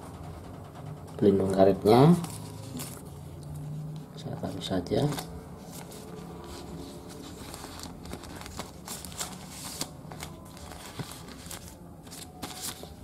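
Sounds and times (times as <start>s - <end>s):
cardboard packaging rustling: 1.8s - 13.0s.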